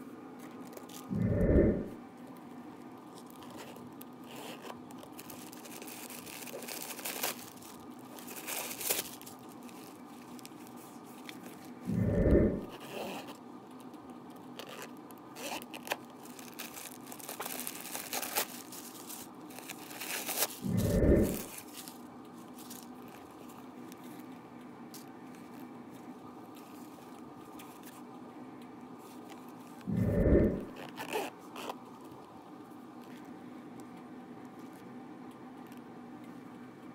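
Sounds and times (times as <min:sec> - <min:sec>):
paper crinkling and rustling: 0:00.4 - 0:01.1, 0:02.2 - 0:11.9, 0:12.7 - 0:28.2, 0:29.0 - 0:29.9, 0:30.6 - 0:34.9.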